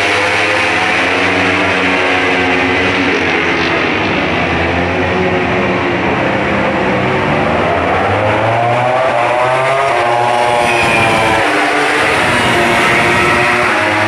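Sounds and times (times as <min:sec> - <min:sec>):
racing motorcycle engines revving: 0:00.0 - 0:14.0.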